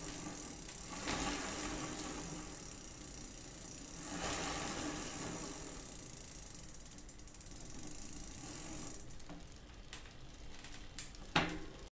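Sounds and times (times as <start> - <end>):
freewheel pawls clicking rapidly: 0.0 - 10.6
bicycle chain running: 0.0 - 11.4.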